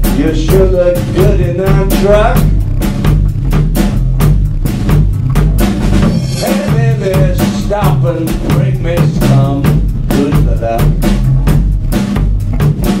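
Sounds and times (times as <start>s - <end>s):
blues rock band playing: 0.0s - 13.0s
electric guitar lead lines: 0.0s - 13.0s.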